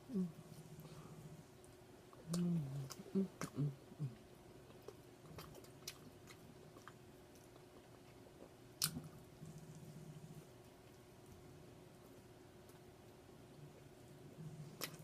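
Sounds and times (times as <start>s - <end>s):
quiet chewing of food: 0.0s - 15.0s.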